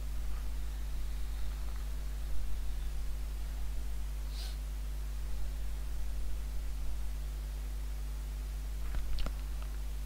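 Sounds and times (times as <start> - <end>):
electrical hum with hiss: 0.0 - 10.0.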